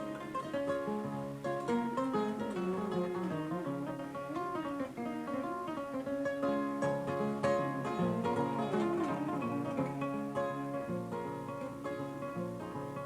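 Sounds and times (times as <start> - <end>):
plucked harp-lute: 0.0 - 13.0.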